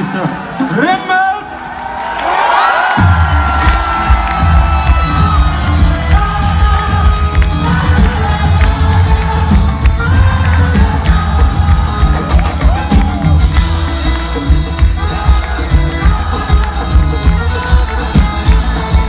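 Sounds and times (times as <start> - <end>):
live band playing: 2.8 - 19.0.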